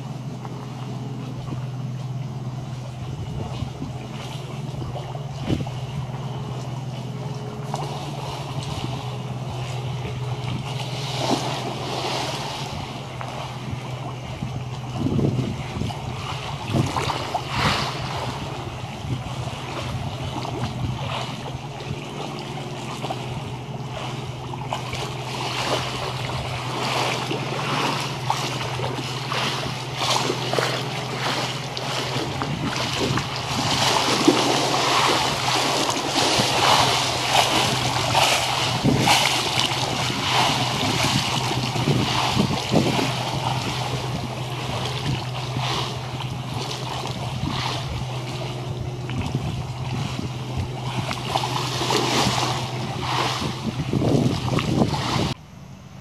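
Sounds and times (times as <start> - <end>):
wind buffeting microphone: 0.0 - 55.4
low steady hum: 0.0 - 56.0
water splashing against rocks: 3.4 - 55.4.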